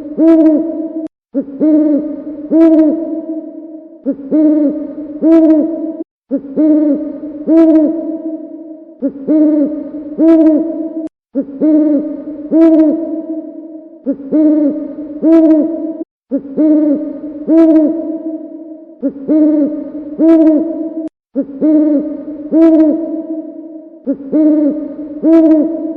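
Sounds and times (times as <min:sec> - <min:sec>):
owl hooting: 0:00.0 - 0:25.9.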